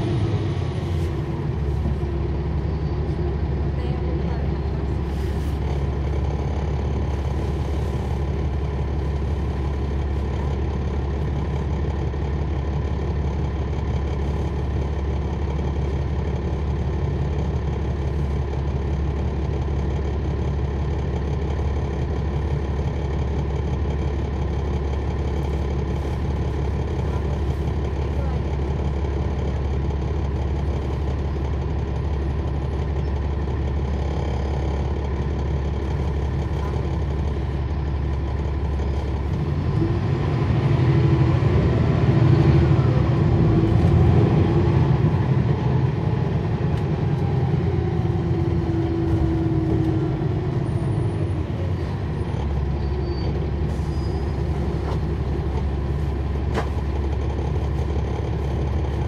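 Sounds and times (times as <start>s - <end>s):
bus diesel engine idling and revving: 0.0s - 59.0s.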